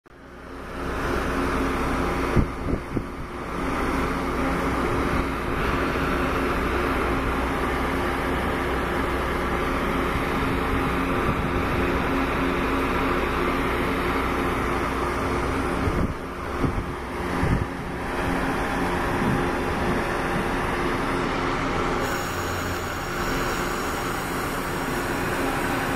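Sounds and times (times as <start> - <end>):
train wheels rumbling on rail: 0.5 - 25.9.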